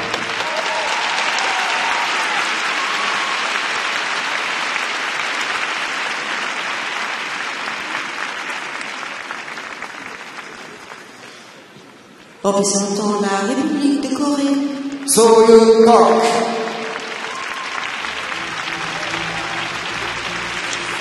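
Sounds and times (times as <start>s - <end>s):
crowd applauding: 0.0s - 12.2s, 14.9s - 21.0s.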